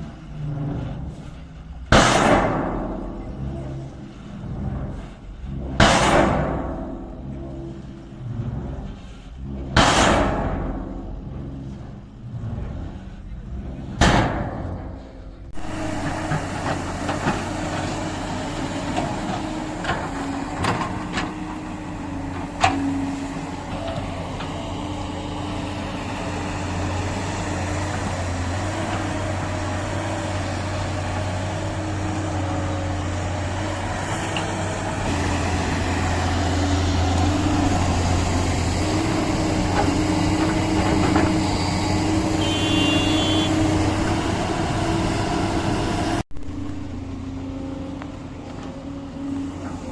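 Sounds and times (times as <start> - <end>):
diesel engine of heavy machinery: 0.0 - 49.9.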